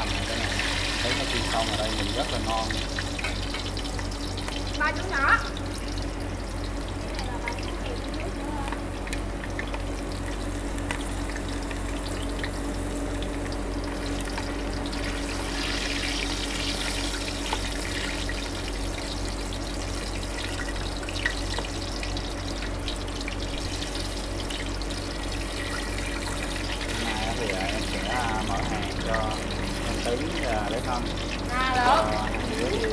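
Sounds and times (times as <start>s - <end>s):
fish deep-frying in hot oil: 0.0s - 32.9s
low steady hum: 0.0s - 32.9s.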